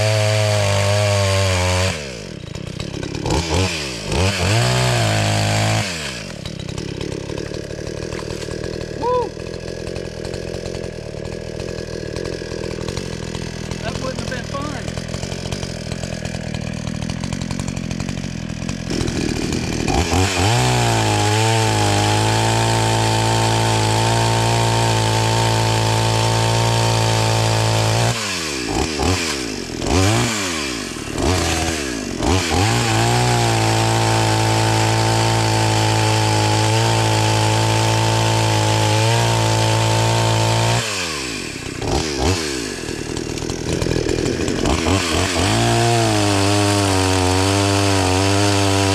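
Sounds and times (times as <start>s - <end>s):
chainsaw cutting wood: 0.0s - 48.9s
chainsaw idling and revving: 0.0s - 48.9s.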